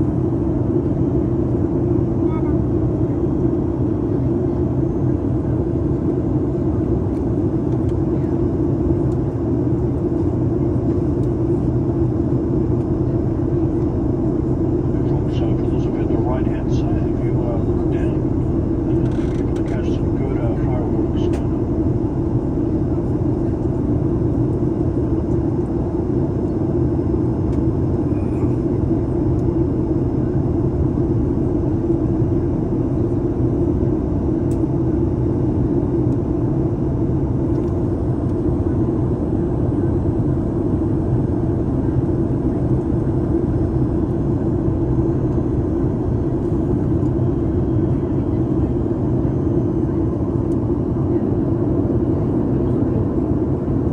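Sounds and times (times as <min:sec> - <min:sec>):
airliner cabin drone: 0:00.0 - 0:53.9.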